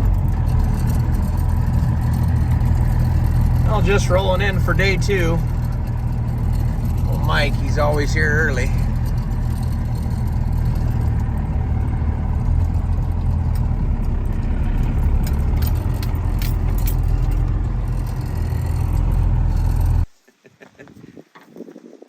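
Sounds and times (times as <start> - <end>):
light rattling and clicking: 0.0 - 20.1
vehicle engine running: 0.0 - 20.1.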